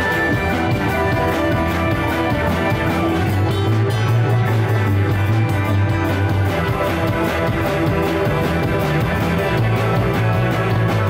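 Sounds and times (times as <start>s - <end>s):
funk band playing: 0.0s - 11.0s
held bass notes: 0.0s - 11.0s
steady drum beat: 0.0s - 11.0s.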